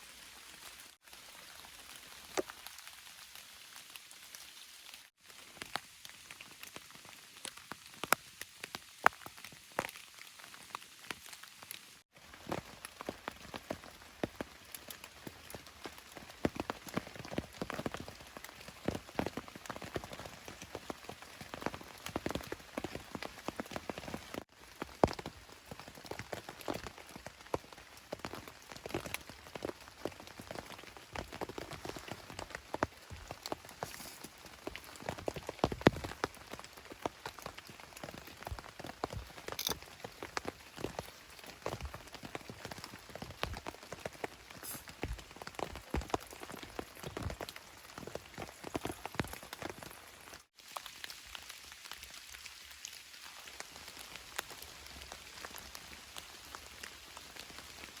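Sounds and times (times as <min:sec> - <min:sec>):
heavy raindrops on a tarp: 0:00.0 - 0:58.0
steady rain: 0:00.0 - 0:58.0.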